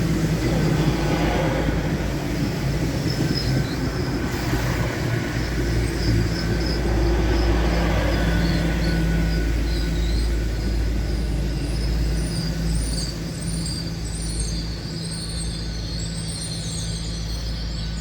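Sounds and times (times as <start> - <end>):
diesel train engine rumble: 0.0 - 18.0.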